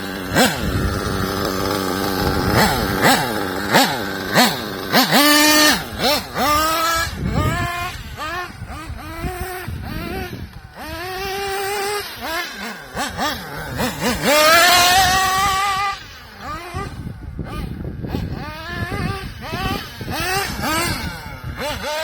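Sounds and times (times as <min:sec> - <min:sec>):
model car nitro engine revving: 0:00.0 - 0:22.0.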